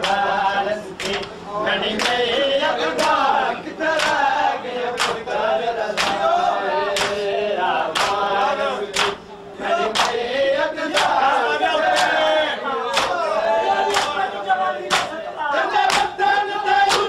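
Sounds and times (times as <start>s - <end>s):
men chanting a lament: 0.0s - 17.0s.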